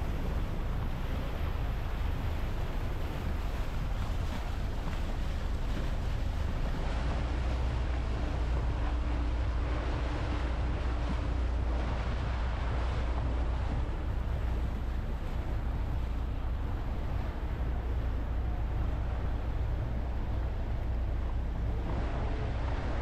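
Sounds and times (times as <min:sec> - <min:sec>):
boat engine rumble: 0:00.0 - 0:23.0
rushing water: 0:00.0 - 0:23.0
wind buffeting microphone: 0:00.0 - 0:23.0.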